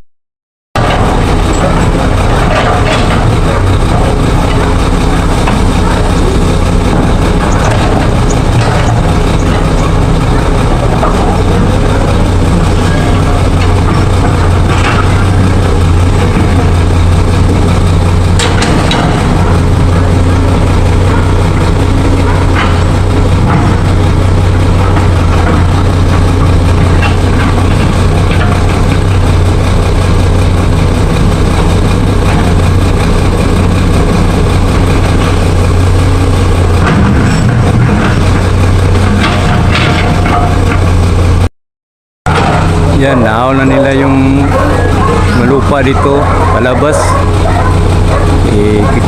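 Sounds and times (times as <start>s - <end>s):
engine idling with low hum: 0.8s - 41.5s, 42.3s - 49.0s.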